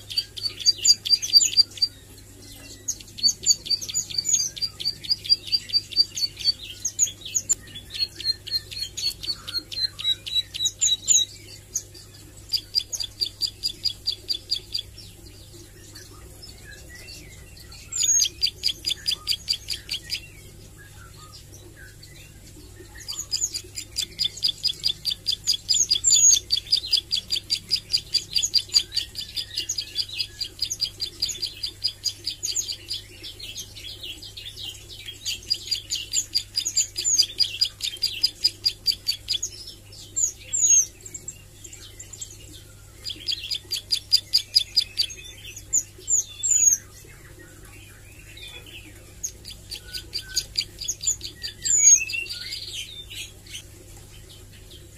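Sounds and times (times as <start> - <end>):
soft bird calls: 0.0 - 54.9.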